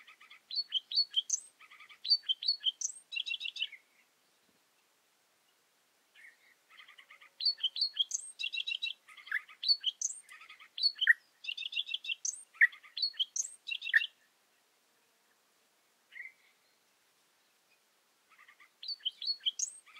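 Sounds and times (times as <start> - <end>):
songbird singing trills: 0.0 - 4.5, 5.4 - 15.4, 16.1 - 19.9.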